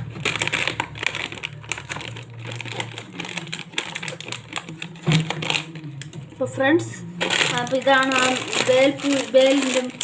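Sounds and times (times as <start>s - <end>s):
plastic packaging crinkling: 0.0s - 6.2s, 7.0s - 10.0s.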